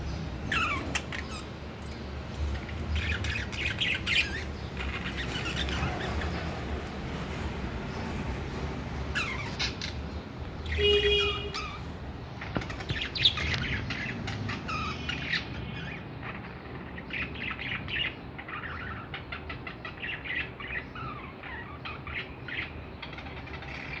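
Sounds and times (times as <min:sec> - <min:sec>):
budgerigars chattering: 0:00.1 - 0:06.8, 0:09.1 - 0:24.0.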